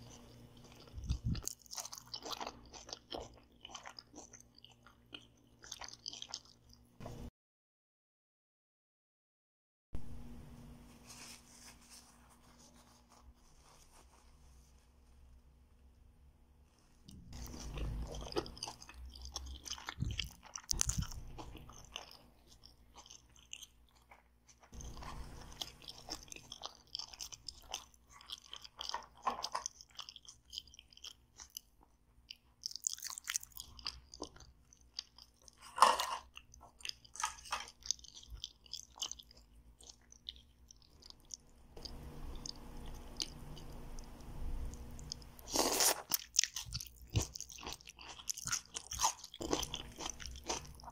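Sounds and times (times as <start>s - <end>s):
crunchy chewing: 0.0s - 7.2s, 16.8s - 50.9s.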